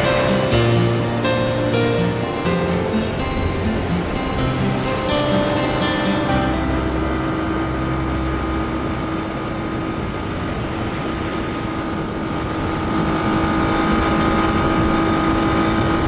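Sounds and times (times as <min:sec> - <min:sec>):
small motorboat engine running: 0:00.0 - 0:16.0
wind and water noise: 0:00.0 - 0:16.0.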